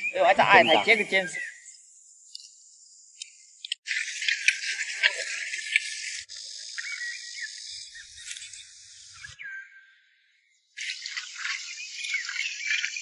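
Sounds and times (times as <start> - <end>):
insects chirring: 0.0 - 9.7, 10.6 - 13.0.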